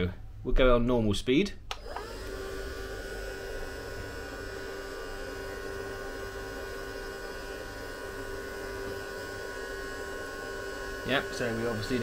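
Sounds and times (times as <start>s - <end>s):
bubble machine motor hum: 1.8s - 12.0s.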